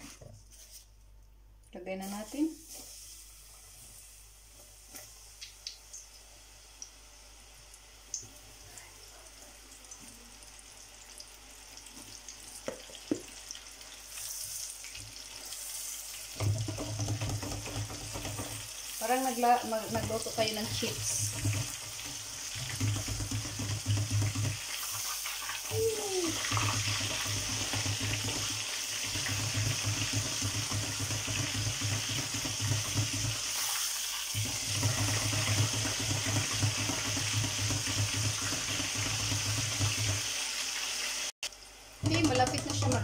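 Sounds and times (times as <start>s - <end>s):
deep-frying sizzle in oil: 2.0s - 43.0s.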